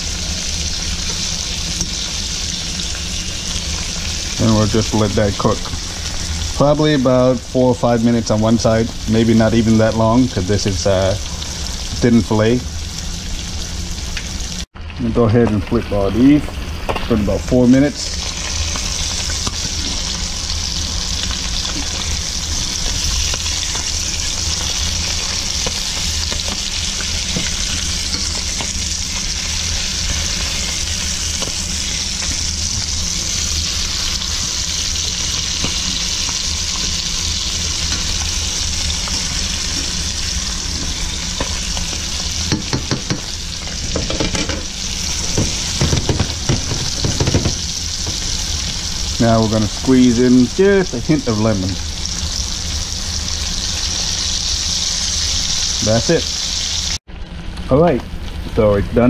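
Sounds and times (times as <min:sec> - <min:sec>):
fish sizzling in oil: 0:00.0 - 0:59.0.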